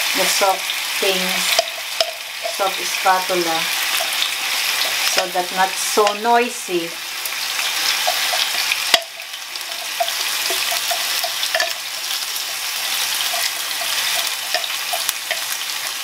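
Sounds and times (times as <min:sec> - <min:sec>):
onion sizzling in frying pan: 0:00.0 - 0:16.0.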